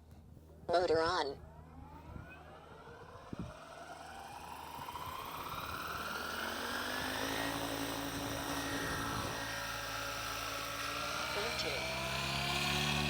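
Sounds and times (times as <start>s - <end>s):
helicopter motor whine rising: 1.4s - 13.0s.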